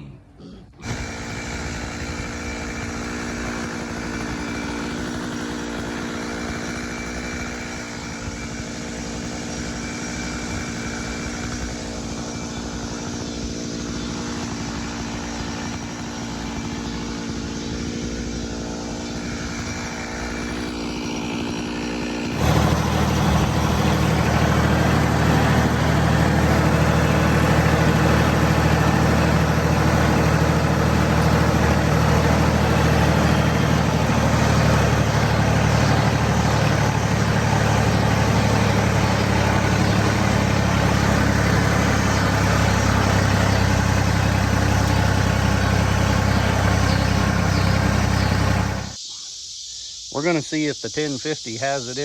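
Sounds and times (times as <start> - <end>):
engine running: 0.0 - 49.0.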